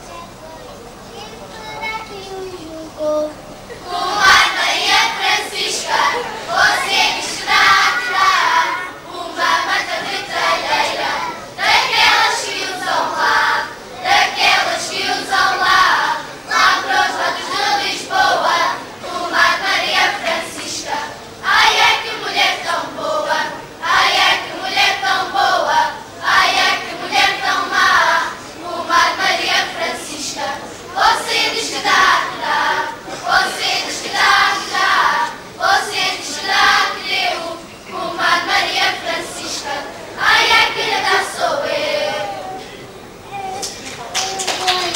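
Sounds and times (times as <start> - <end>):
children's choir singing unaccompanied: 0.0 - 44.9.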